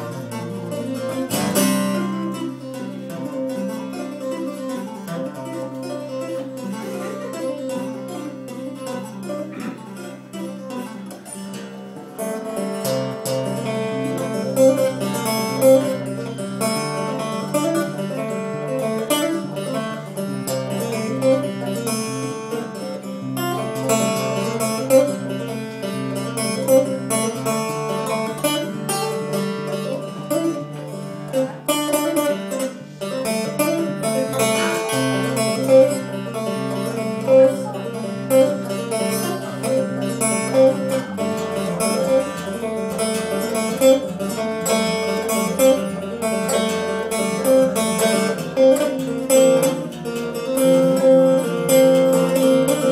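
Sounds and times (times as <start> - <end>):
acoustic guitar picking: 0.0 - 52.9.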